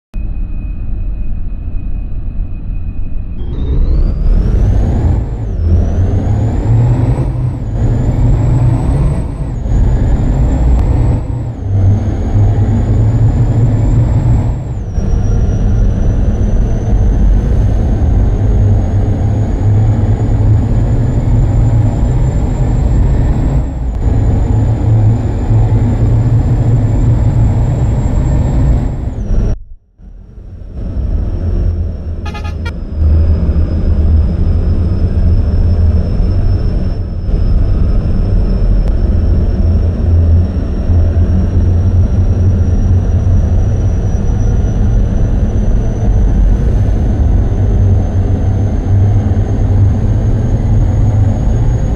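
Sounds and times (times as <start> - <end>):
truck engine pulling through gears: 3.3 - 51.9.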